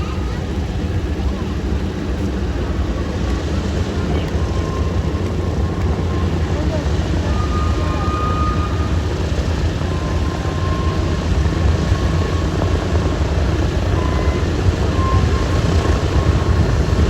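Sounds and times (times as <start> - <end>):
radial engines droning: 0.0 - 17.0.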